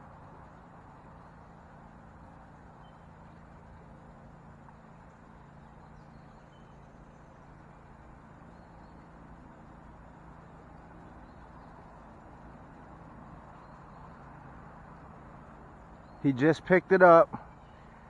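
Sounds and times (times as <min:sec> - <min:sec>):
low hum: 0:00.0 - 0:16.2.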